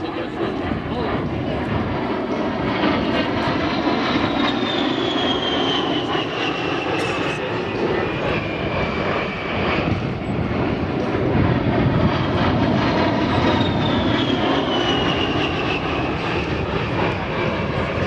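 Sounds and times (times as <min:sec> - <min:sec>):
high jet whine falling in pitch: 0:00.0 - 0:18.0
jet flyby roar: 0:00.0 - 0:18.0.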